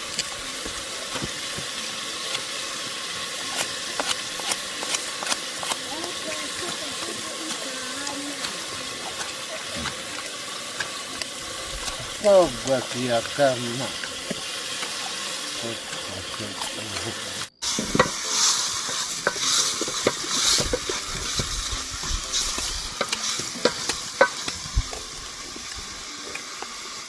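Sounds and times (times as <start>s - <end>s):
meat sizzling over open fire: 0.0s - 27.0s.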